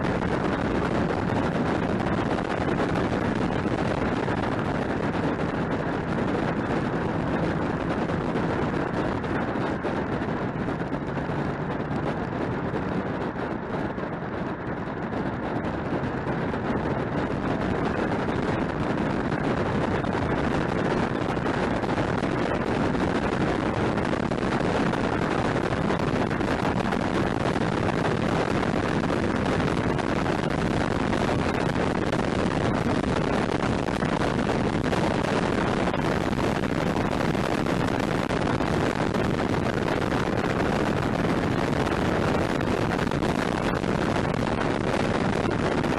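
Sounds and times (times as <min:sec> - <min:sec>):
car tyre and road noise: 0:00.0 - 0:45.9
wind rush: 0:00.0 - 0:45.9.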